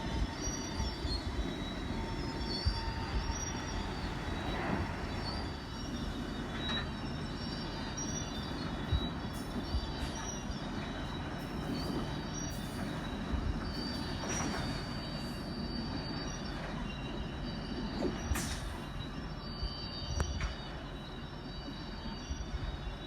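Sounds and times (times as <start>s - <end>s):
rails screeching: 0.0s - 19.6s
train rumble: 0.0s - 23.0s.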